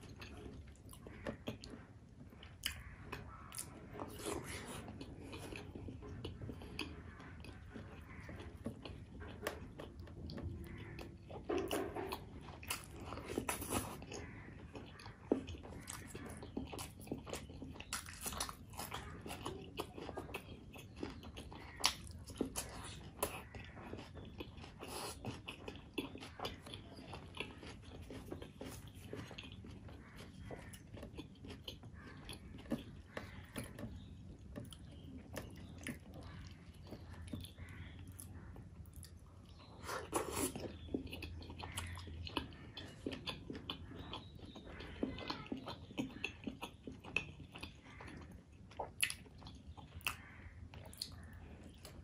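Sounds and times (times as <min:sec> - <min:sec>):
person chewing food: 0:00.0 - 0:52.0.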